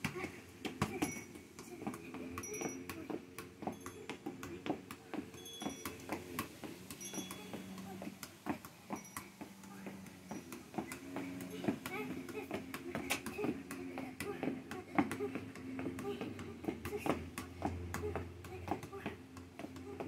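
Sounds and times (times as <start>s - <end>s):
soccer ball taps: 0.0s - 20.0s.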